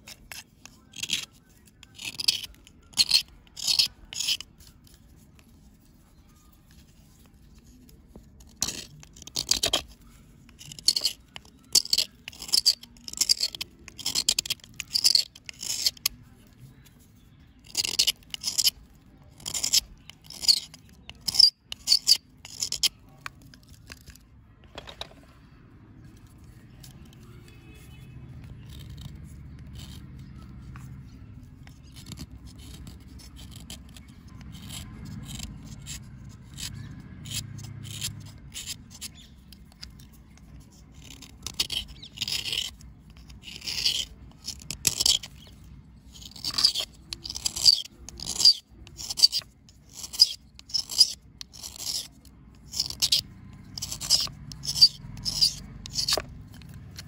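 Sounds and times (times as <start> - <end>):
knife scraping a chalky bar: 0.0 - 24.2, 26.0 - 57.0.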